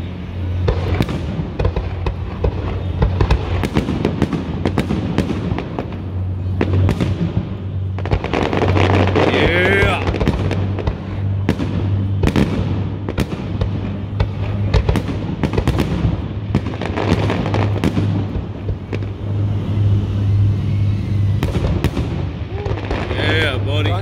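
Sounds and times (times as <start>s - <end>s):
firework bangs: 0.0s - 24.0s
firework crackle: 0.0s - 24.0s
steady low hum: 0.0s - 24.0s.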